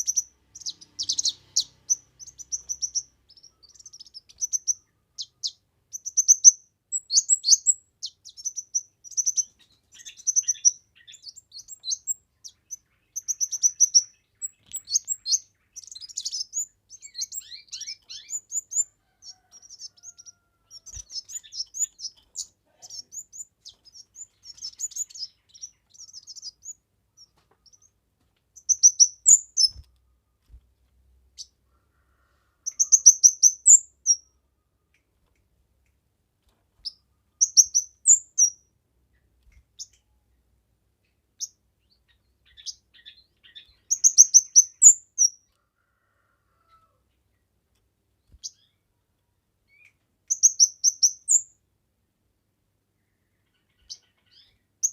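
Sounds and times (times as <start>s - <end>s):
songbird chirping and trilling: 0.0s - 36.0s, 36.6s - 51.7s, 52.7s - 54.9s.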